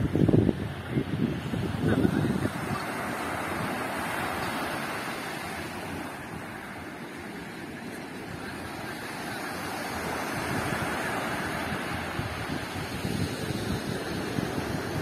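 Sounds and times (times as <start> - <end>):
surf breaking on a beach: 0.0 - 15.0
wind buffeting the microphone: 0.0 - 15.0.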